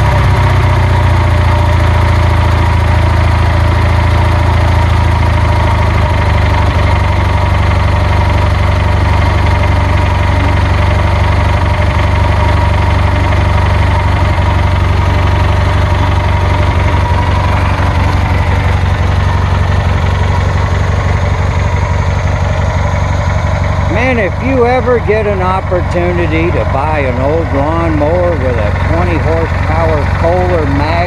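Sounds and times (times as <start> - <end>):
lawnmower engine idling: 0.0 - 31.0.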